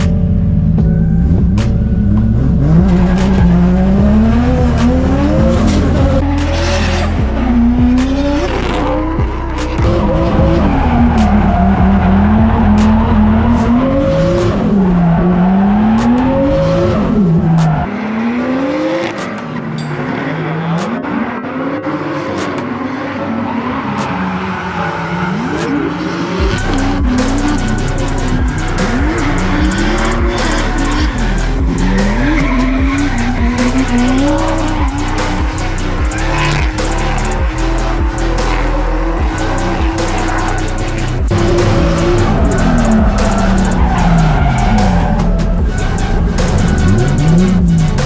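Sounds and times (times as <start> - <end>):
car engine revving hard: 0.0 - 19.3, 20.4 - 48.0
tire squeal: 0.8 - 48.0.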